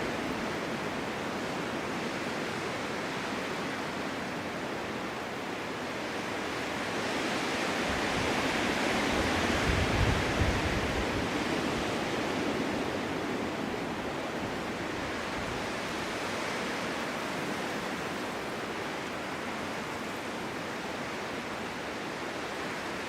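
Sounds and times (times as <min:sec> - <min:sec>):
snowstorm wind blowing: 0:00.0 - 0:23.0.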